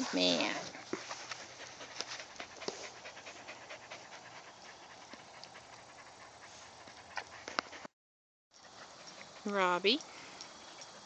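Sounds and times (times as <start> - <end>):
dog panting: 0.2 - 7.9, 8.6 - 11.0.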